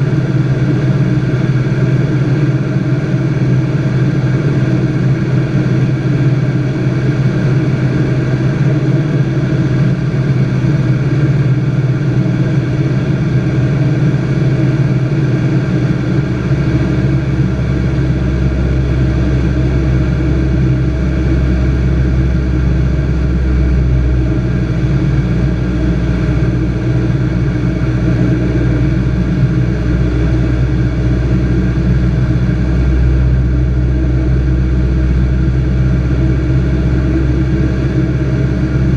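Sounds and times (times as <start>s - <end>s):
deep low hum: 0.0s - 38.9s
light aircraft engine droning: 0.0s - 38.9s.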